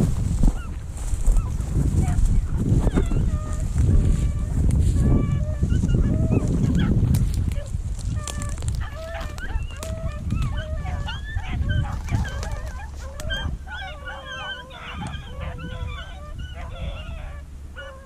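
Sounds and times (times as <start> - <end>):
dogs baying in chorus: 0.0 - 18.0
low rumble on microphone: 0.0 - 18.0.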